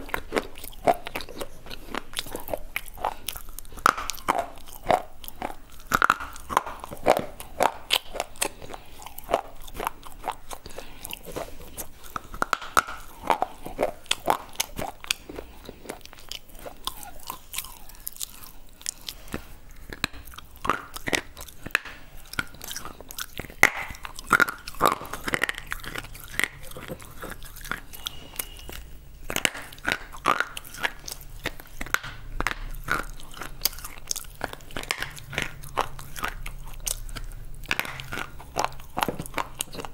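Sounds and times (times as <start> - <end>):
slate crunching between teeth: 0.0 - 39.9.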